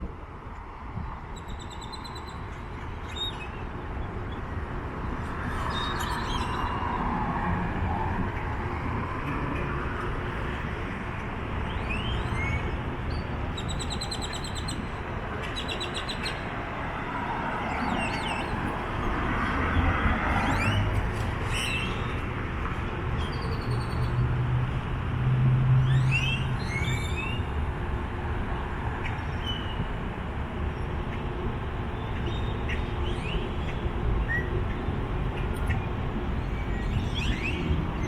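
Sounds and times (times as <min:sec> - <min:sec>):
city traffic rumble: 0:00.0 - 0:38.0.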